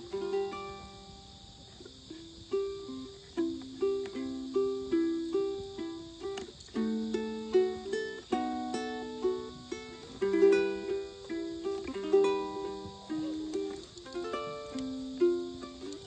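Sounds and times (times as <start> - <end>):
ukulele playing: 0.0 - 16.0.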